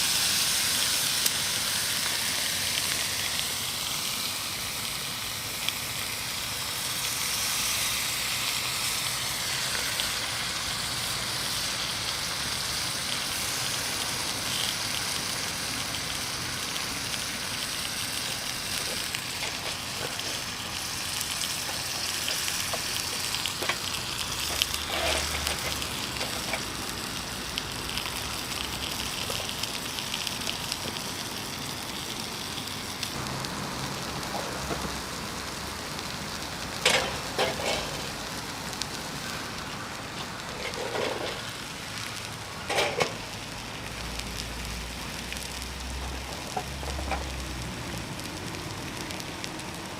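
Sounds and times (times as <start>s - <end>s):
fire crackles and pops: 0.0s - 49.9s
meat sizzling on a grill: 0.0s - 49.9s.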